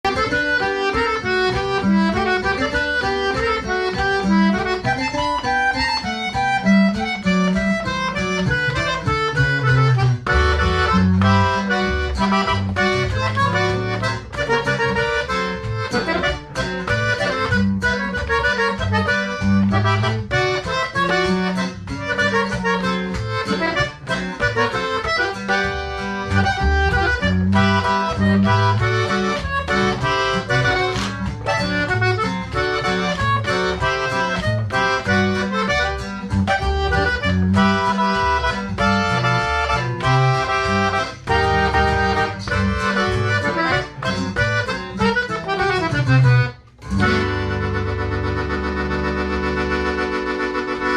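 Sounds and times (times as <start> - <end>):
button accordion playing: 0.0 - 50.9.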